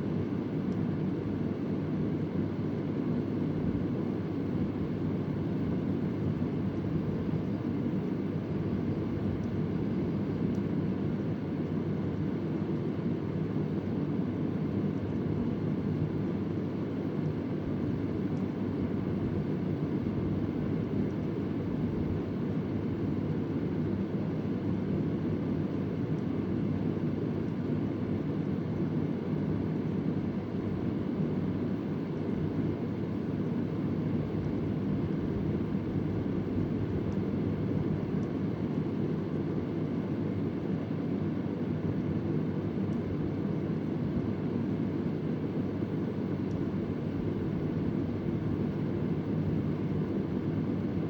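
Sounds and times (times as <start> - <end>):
electric fan running: 0.0 - 51.0.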